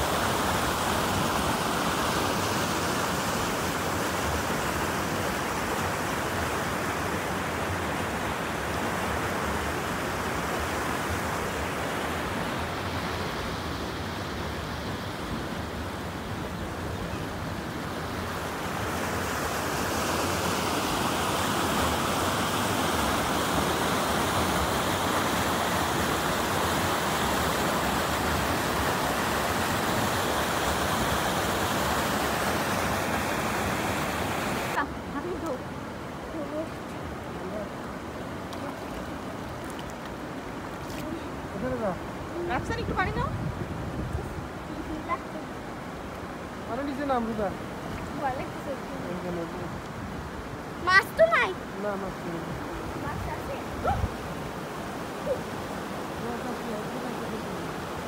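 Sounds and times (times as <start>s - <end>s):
waterfall rushing over rocks: 0.0s - 42.8s, 44.5s - 58.0s.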